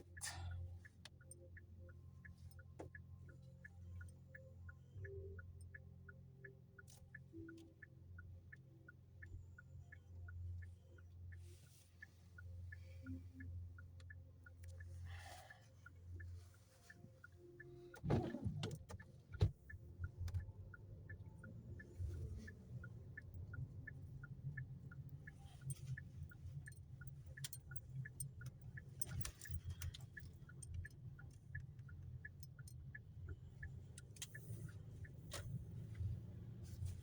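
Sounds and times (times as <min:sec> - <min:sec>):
turn signal clicking: 0:00.0 - 0:37.0.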